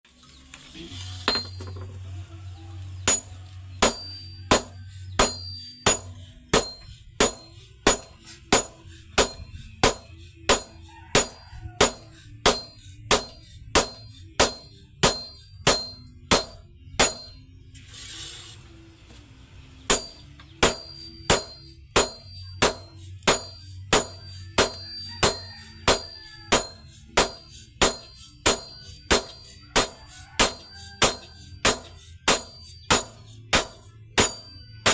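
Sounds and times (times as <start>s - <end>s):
hammer ringing on anvil: 1.3s - 1.8s, 3.1s - 17.6s, 19.9s - 34.9s.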